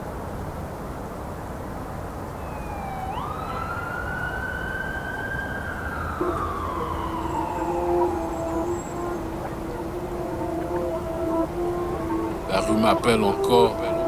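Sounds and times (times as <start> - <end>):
city rumble: 0.0 - 14.0
emergency siren wailing: 2.4 - 14.0
low steady tone: 2.4 - 14.0.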